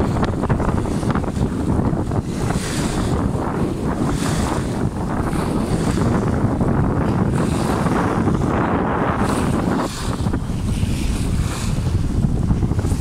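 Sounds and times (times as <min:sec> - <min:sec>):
sea water lapping and splashing: 0:00.0 - 0:13.0
wind buffeting microphone: 0:00.0 - 0:13.0.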